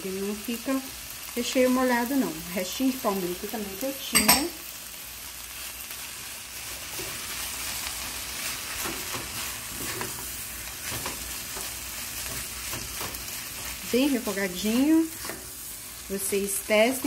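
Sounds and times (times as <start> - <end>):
chicken sizzling in a pot: 0.0 - 17.0.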